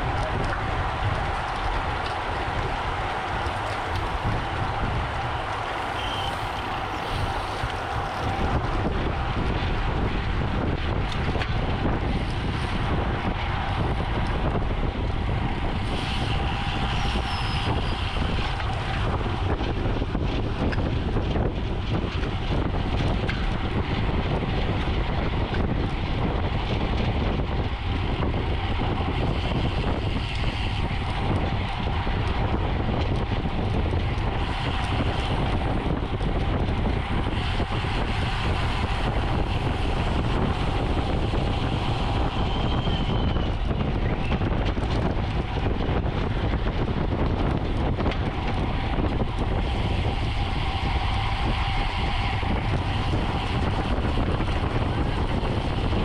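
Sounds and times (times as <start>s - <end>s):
tyres rumbling on road: 0.0s - 56.0s
wind rushing over microphone: 0.0s - 56.0s.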